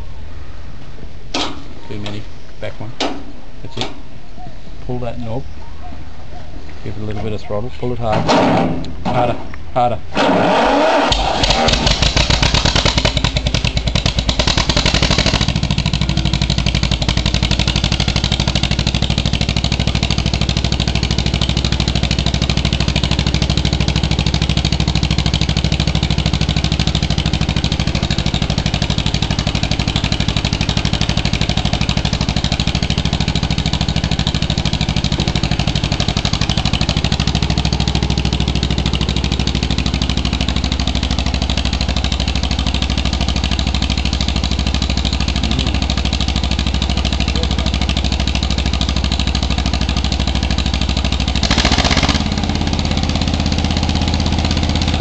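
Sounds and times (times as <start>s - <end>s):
crawler tractor engine running: 10.9s - 55.0s.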